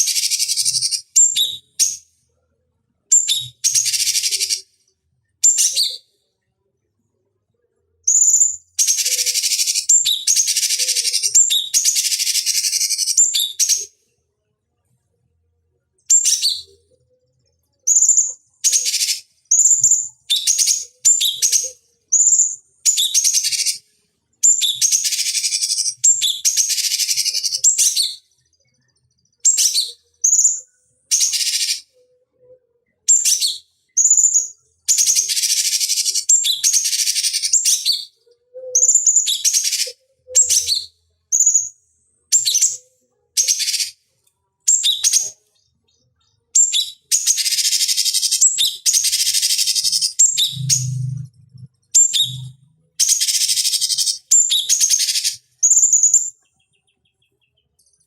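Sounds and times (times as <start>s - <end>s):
bird chirping and singing: 0.0s - 2.0s, 5.4s - 6.1s, 8.1s - 13.9s, 16.1s - 23.8s, 24.4s - 32.0s, 33.0s - 41.7s, 42.3s - 42.8s, 43.4s - 44.0s, 44.7s - 58.0s.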